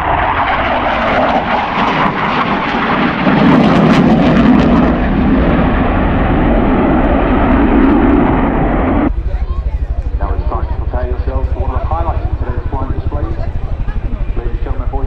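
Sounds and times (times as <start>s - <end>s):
fighter jet engines passing: 0.0s - 15.0s.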